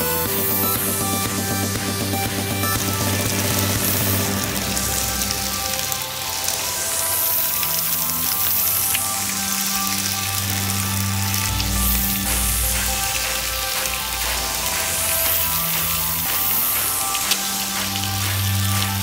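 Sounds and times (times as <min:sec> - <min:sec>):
background music: 0:00.0 - 0:19.0
fish frying in hot oil: 0:00.0 - 0:19.0.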